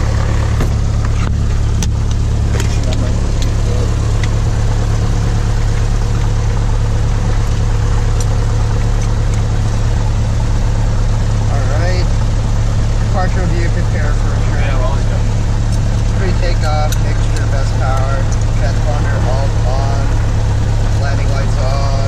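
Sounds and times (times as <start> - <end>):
aircraft engine droning: 0.0 - 22.0.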